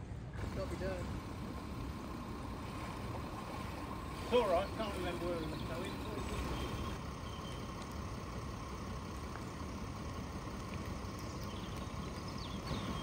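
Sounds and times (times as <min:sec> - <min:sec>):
car engine idling: 0:00.3 - 0:13.0.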